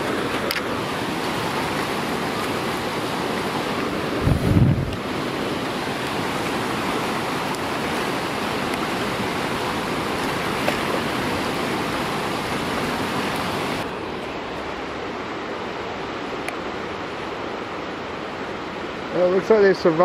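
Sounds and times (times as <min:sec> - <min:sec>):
whitewater rapids rushing: 0:00.0 - 0:20.0.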